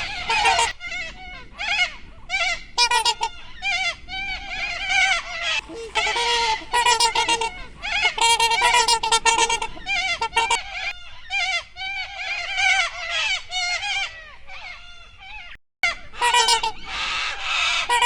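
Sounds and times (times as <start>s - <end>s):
geese honking: 0.0s - 14.1s, 16.2s - 18.0s.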